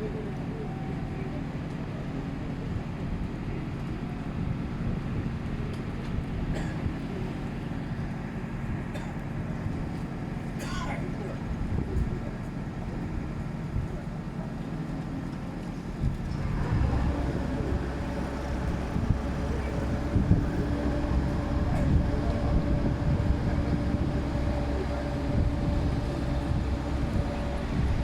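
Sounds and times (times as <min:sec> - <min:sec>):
large vehicle engine running: 0:00.0 - 0:28.0.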